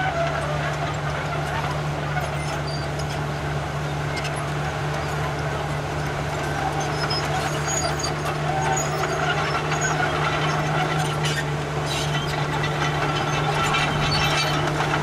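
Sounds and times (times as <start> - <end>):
diesel engine running under load: 0.0 - 15.0
tracks scraping and clattering: 0.0 - 15.0.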